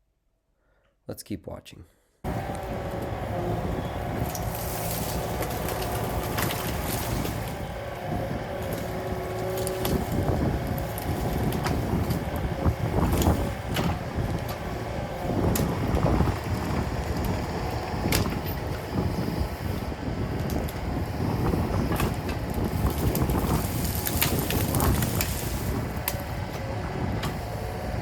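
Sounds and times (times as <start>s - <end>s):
excavator engine running: 2.2s - 28.0s
wind buffeting microphone: 2.3s - 28.0s.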